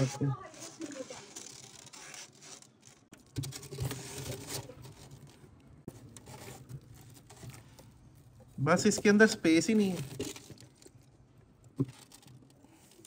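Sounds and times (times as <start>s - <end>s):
plastic bottles knocking and scraping: 0.0s - 13.0s.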